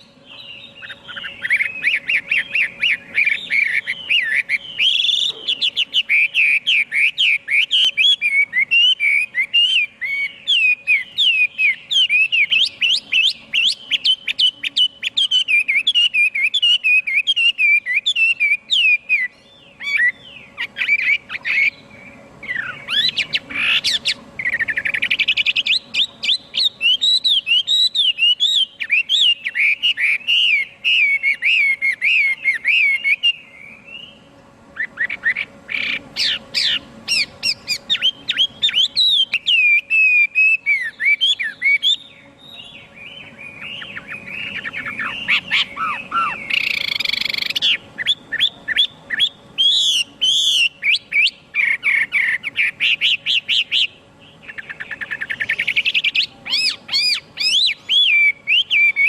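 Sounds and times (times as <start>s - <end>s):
bird singing whistled notes: 0.0s - 59.0s.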